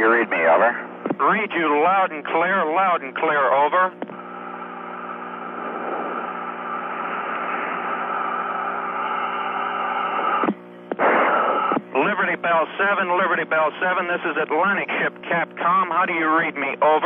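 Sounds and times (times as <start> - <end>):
radio static and hum: 0.0 - 17.0.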